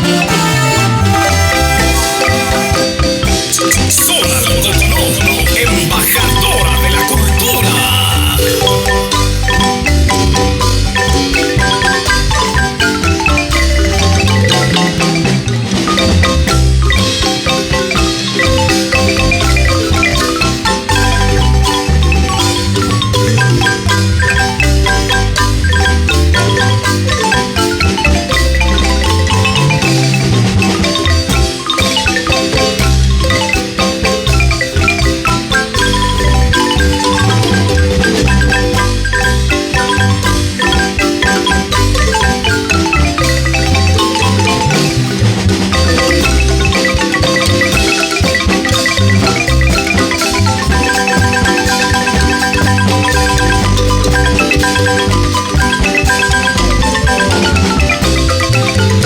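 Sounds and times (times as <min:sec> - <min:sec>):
marimba ensemble playing: 0:00.0 - 0:59.0.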